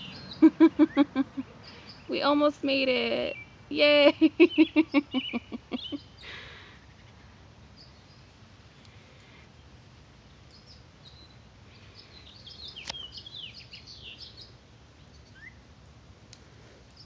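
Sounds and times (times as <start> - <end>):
small birds chirping: 0.0 - 15.7, 16.3 - 17.0
faint outdoor background noise: 0.0 - 17.0.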